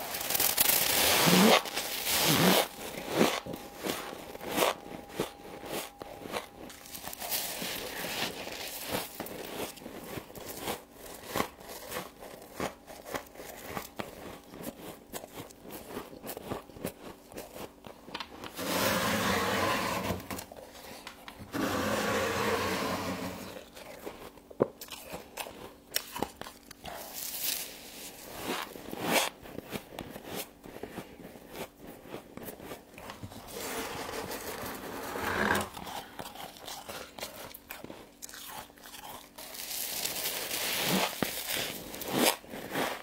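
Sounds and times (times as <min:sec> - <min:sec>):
frost crunching and chewing: 0:00.0 - 0:18.6, 0:23.5 - 0:34.9, 0:35.7 - 0:43.0.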